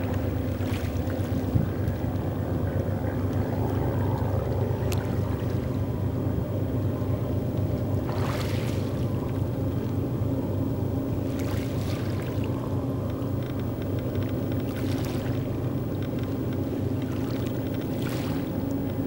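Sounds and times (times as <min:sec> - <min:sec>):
distant diesel locomotives: 0:00.0 - 0:19.0
freight train rumble: 0:00.0 - 0:19.0.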